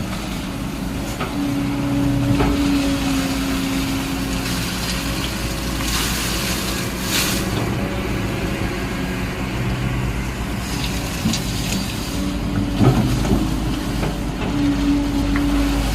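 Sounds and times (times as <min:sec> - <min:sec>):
excavator diesel engine running: 0:00.0 - 0:15.9.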